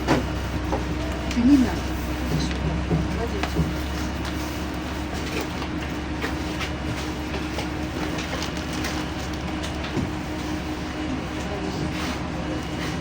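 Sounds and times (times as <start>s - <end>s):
bus engine and tyres droning: 0.0s - 13.0s.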